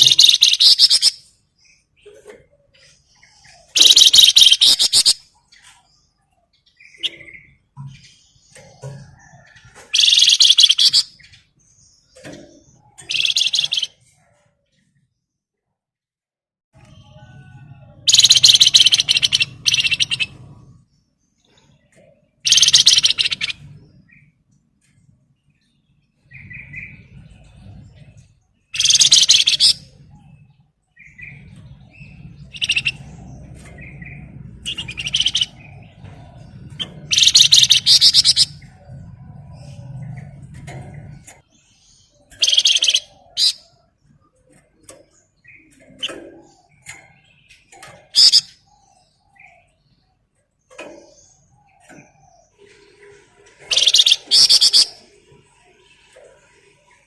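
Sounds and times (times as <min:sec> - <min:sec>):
songbird chattering song: 0:00.0 - 0:15.0, 0:16.8 - 0:57.0.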